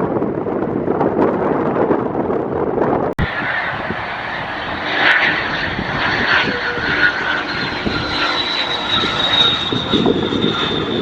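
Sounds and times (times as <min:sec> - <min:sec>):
airplane engine whine: 0:00.0 - 0:11.0.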